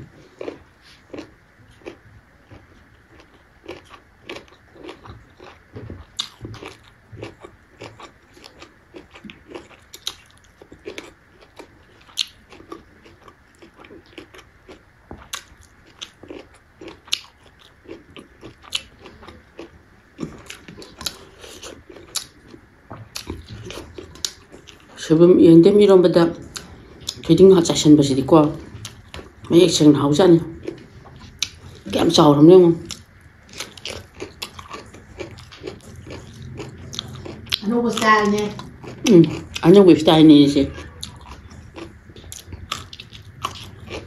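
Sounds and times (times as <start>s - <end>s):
person chewing food: 0.0s - 25.1s, 26.2s - 44.0s.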